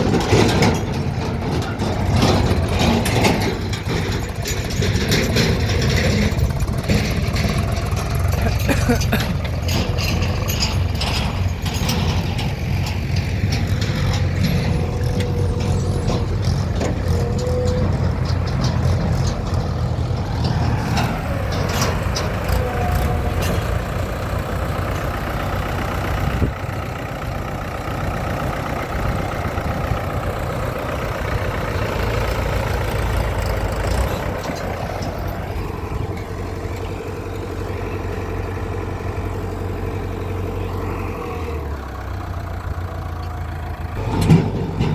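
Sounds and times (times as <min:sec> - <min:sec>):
clanks and knocks: 0:00.0 - 0:26.6, 0:28.0 - 0:37.5, 0:42.4 - 0:44.9
heavy diesel machinery running: 0:00.0 - 0:44.9.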